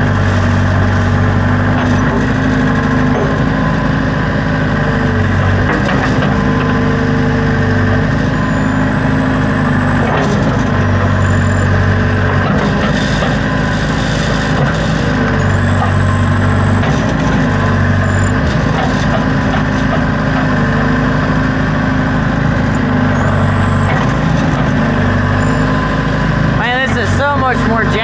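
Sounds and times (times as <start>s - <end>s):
diesel engine running under load: 0.0s - 28.0s
hydraulic digging arm rattle: 0.0s - 28.0s.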